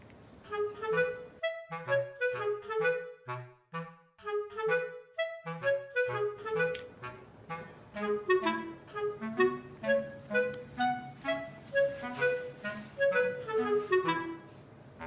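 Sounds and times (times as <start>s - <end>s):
bouncy woodwind tune: 0.4s - 14.7s.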